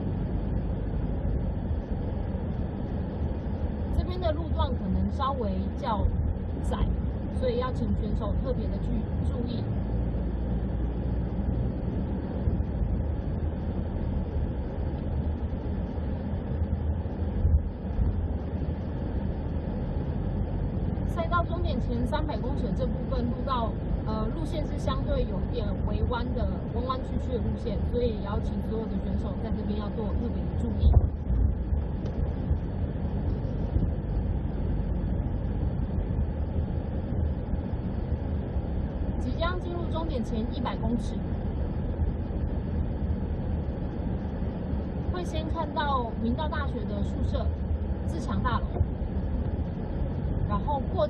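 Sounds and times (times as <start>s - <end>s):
vehicle engine and road noise: 0.0s - 51.0s.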